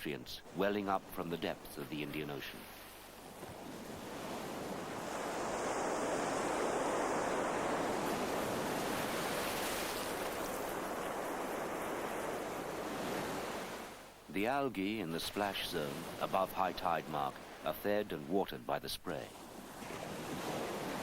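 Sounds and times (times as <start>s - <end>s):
ocean waves breaking on shore: 0.0s - 21.0s.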